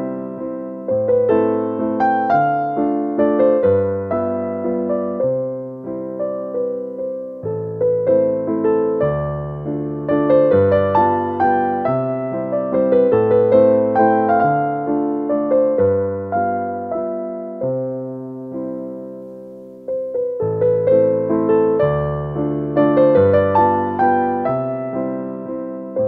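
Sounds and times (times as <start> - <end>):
gentle piano tune: 0.0 - 26.0.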